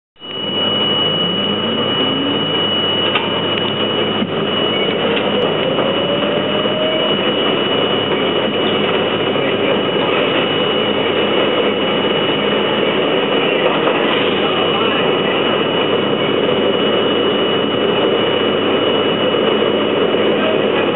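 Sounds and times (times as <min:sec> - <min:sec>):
traction motor whine rising: 0:00.2 - 0:20.9
steel wheels on rails: 0:01.2 - 0:20.9.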